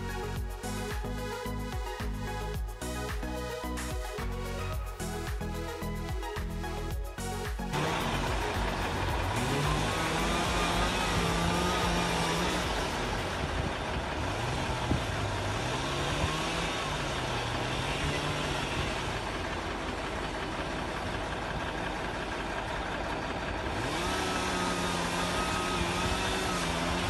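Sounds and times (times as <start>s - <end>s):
sawmill motor running: 0.0s - 27.0s.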